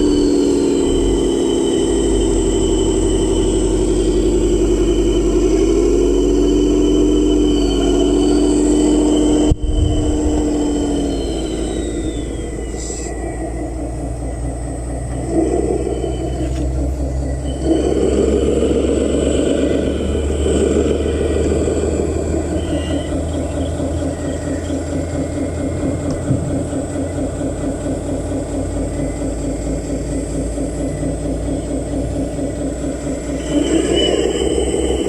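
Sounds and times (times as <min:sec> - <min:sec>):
heavy machine engine chugging: 0:00.0 - 0:35.0.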